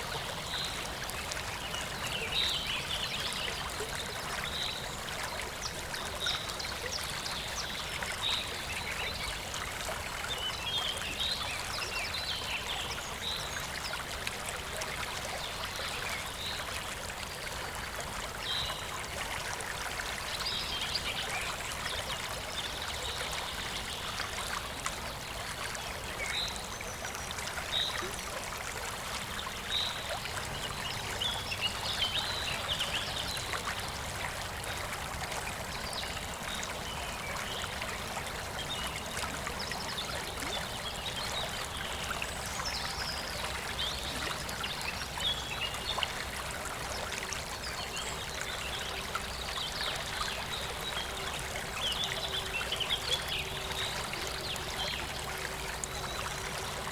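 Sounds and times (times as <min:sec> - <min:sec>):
stream babbling: 0:00.0 - 0:56.9.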